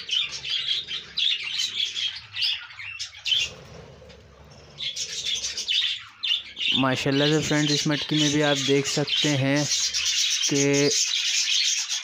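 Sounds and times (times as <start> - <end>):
budgerigars chirping and chattering: 0.0 - 12.0.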